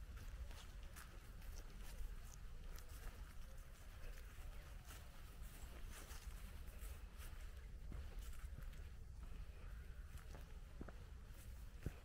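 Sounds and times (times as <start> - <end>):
footsteps on dirt path: 0.0 - 12.0.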